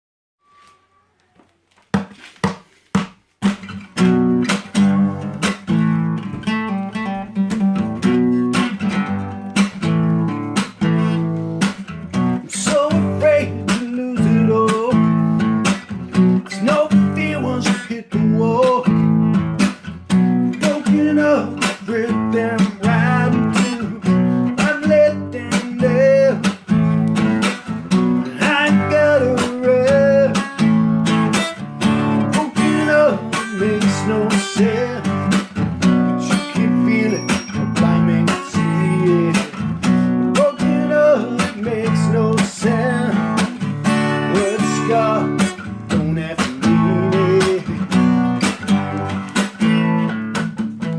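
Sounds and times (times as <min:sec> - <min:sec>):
acoustic guitar strumming: 0:03.0 - 0:50.9
guitar melody line: 0:03.4 - 0:50.9.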